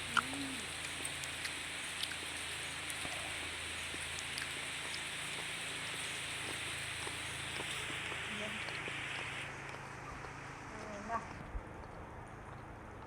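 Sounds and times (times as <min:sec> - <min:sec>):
heavy rain hissing: 0:00.0 - 0:11.4
raindrop ticks: 0:00.0 - 0:13.0.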